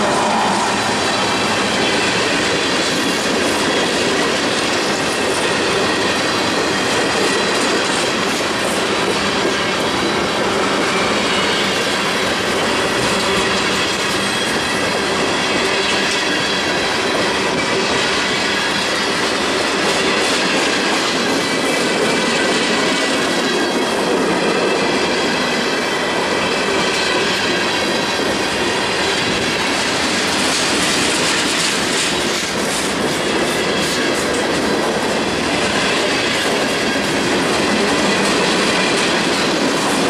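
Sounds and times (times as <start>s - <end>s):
train wheels rumbling and clacking: 0.0s - 40.0s.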